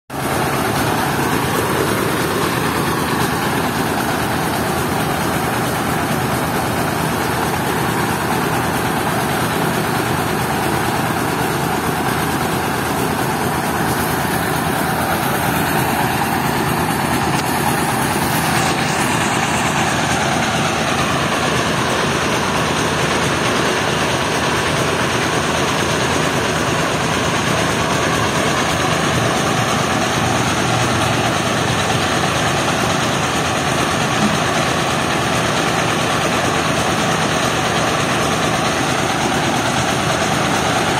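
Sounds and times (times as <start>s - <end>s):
rice mill running: 0.1s - 40.9s.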